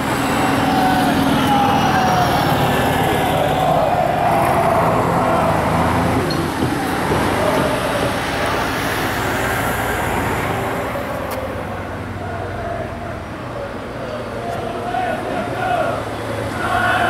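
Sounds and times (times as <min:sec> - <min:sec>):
bus approaching: 0:00.0 - 0:17.0
road traffic passing: 0:00.0 - 0:17.0.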